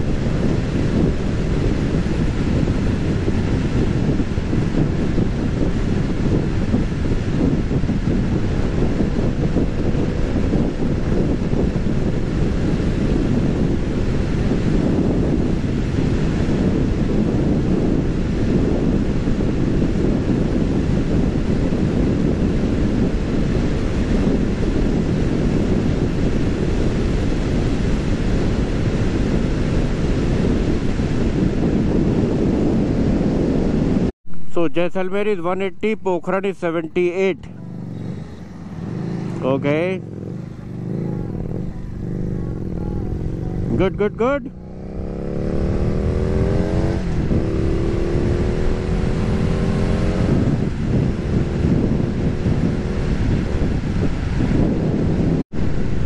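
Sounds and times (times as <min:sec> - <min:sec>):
motorcycle engine running: 0:00.0 - 0:34.0, 0:36.2 - 0:56.0
wind rushing over microphone: 0:00.0 - 0:56.0.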